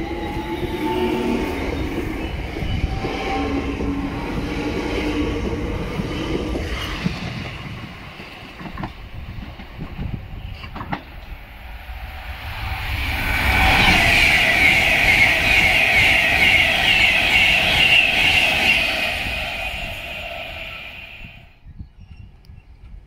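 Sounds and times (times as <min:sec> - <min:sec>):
electric train humming: 0:00.0 - 0:21.6
express train passing: 0:00.0 - 0:21.6.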